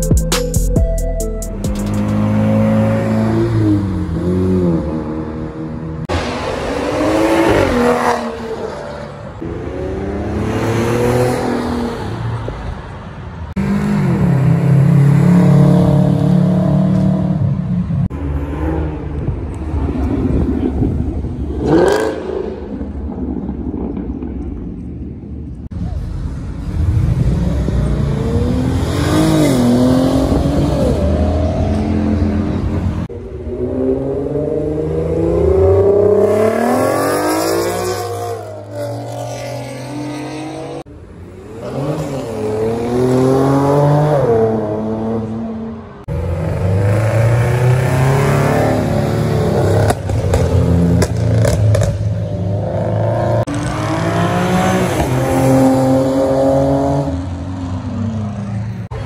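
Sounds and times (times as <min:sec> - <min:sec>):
car engines revving: 0:01.6 - 0:59.0.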